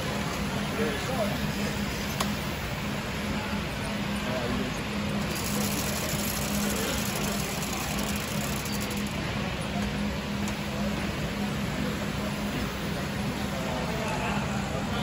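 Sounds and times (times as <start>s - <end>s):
busy hall noise: 0.0s - 15.0s
steady hum: 0.0s - 15.0s.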